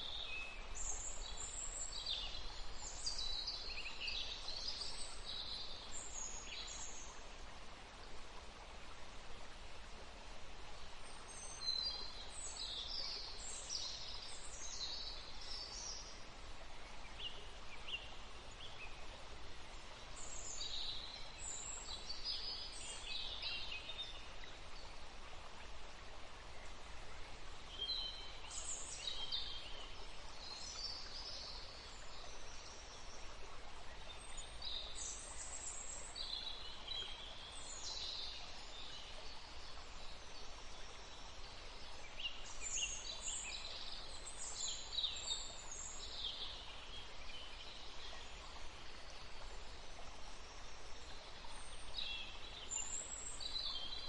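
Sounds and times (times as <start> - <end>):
gentle breeze: 0.0 - 54.0
songbirds chirping: 0.0 - 54.0.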